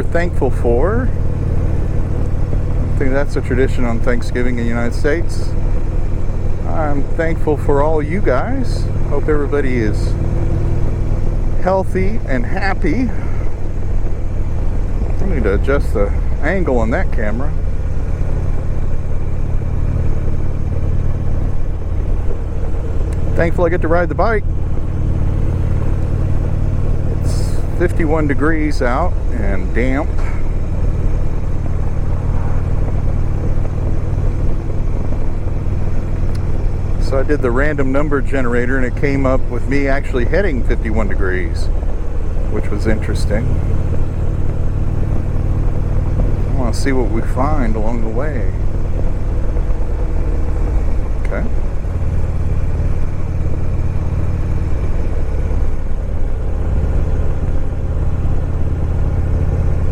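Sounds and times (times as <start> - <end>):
motorcycle engine cruising: 0.0 - 59.9
road noise: 0.0 - 59.9.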